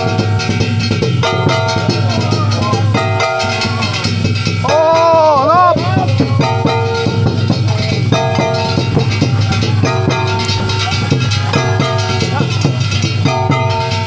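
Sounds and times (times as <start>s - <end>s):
drumming: 0.0s - 14.0s
metal gongs ringing: 0.0s - 14.0s.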